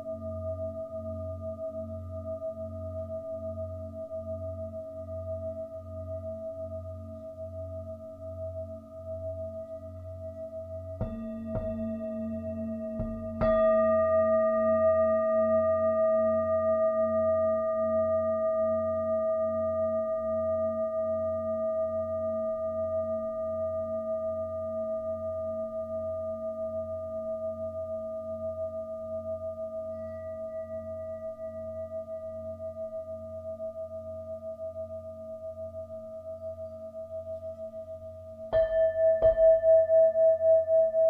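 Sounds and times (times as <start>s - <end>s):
singing bowl ringing: 7.8s - 41.0s.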